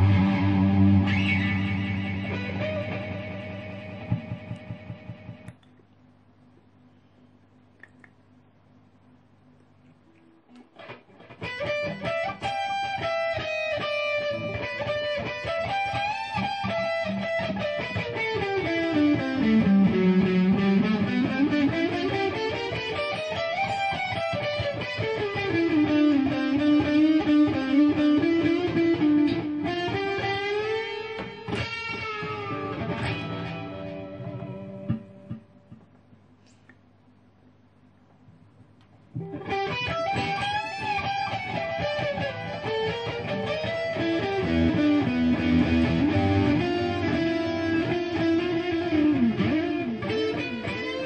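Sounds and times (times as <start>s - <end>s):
distorted electric guitar with delay: 0.0s - 5.5s, 10.8s - 35.9s, 39.1s - 51.0s.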